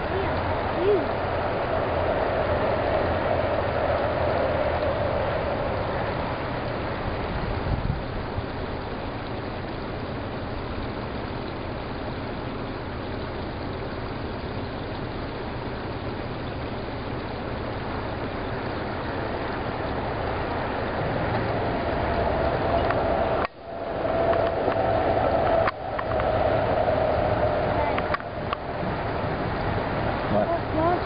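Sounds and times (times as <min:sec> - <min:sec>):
car engine running: 0:00.0 - 0:31.0
constant hiss: 0:00.0 - 0:31.0.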